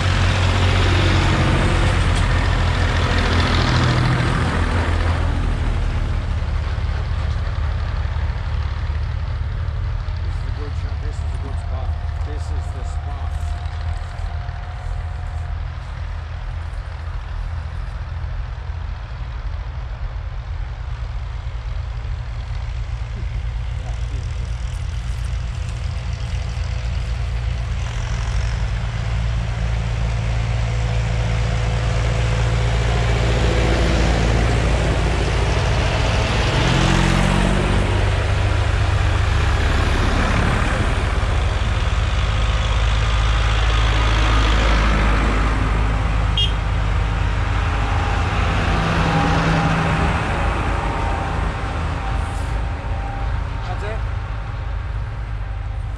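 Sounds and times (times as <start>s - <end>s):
tractor diesel engines: 0.0s - 55.9s.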